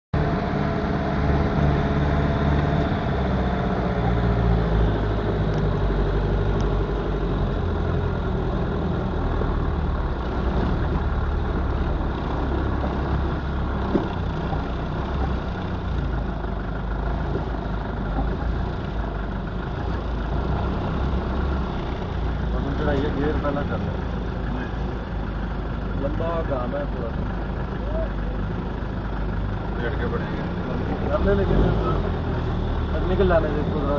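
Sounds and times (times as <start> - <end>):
vehicle engine at low revs: 0.2 - 33.9.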